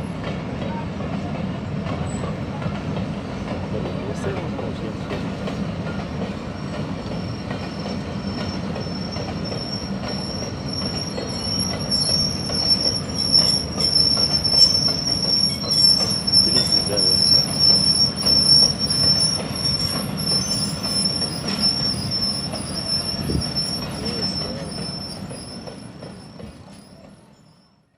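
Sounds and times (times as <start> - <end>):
train cars rumbling: 0.0 - 27.9
train wheels squealing on rails: 0.0 - 27.9.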